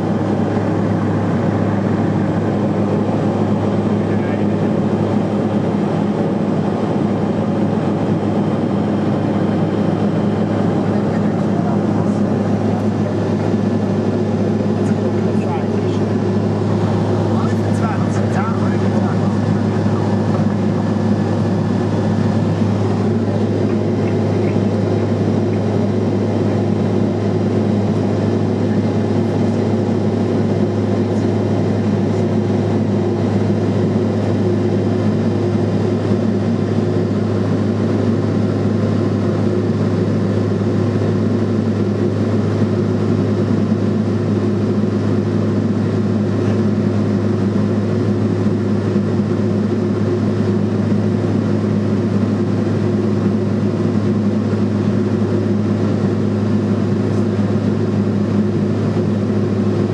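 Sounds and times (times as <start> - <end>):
turboprop engine drone in cabin: 0.0 - 59.9.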